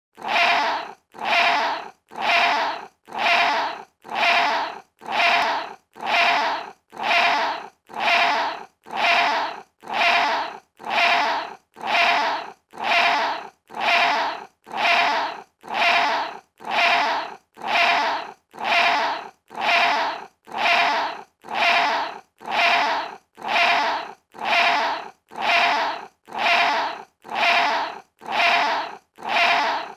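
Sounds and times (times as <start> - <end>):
cat meowing: 0.2 - 29.9.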